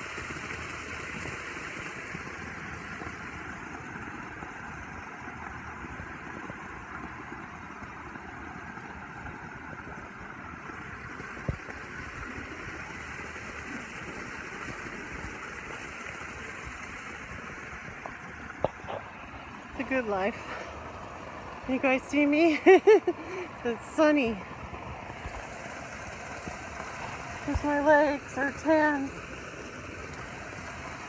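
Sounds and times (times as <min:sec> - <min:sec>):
pool waterfall splashing: 0:00.0 - 0:31.0.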